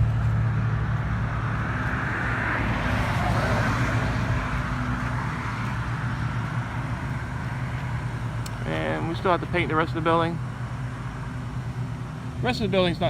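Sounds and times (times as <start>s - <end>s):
road traffic noise: 0.0s - 13.0s
steady low hum: 0.0s - 13.0s
vehicle passing: 0.0s - 13.0s.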